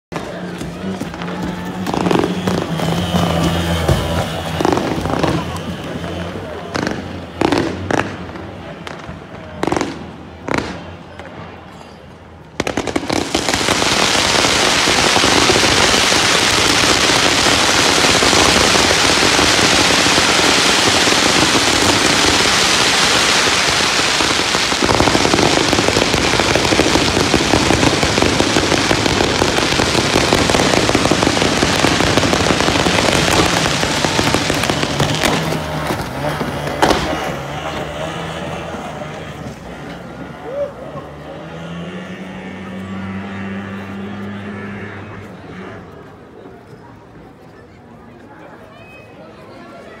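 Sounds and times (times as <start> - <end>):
fireworks crackling: 0.1 - 41.4.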